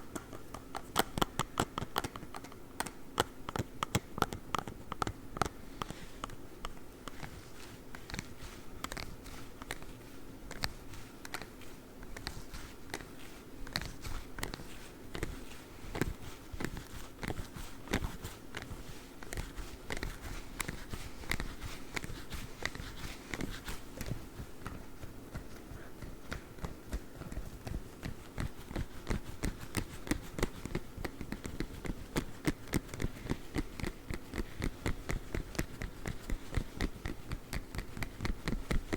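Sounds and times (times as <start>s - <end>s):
claw gloves tapping and scratching: 0.0s - 38.9s.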